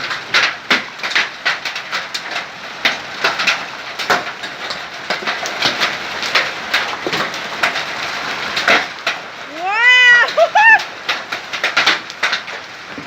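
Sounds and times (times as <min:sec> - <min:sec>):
hailstones striking hard surfaces: 0:00.0 - 0:13.0.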